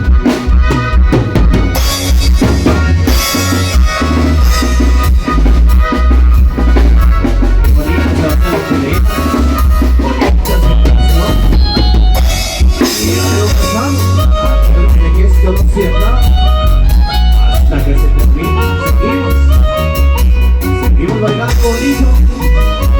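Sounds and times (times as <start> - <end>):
band music: 0.0 - 22.9
bass drum and snare beat: 0.0 - 22.9.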